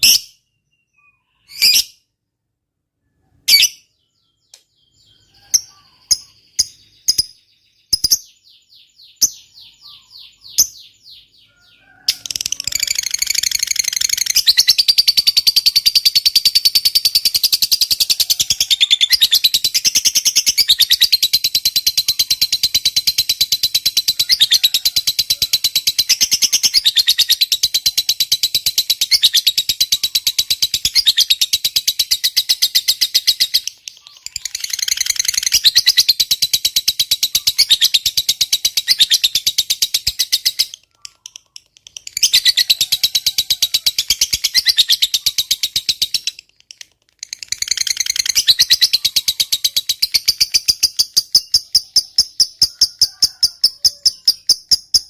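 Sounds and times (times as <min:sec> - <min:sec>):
lovebird chattering call: 0:05.2 - 0:55.0.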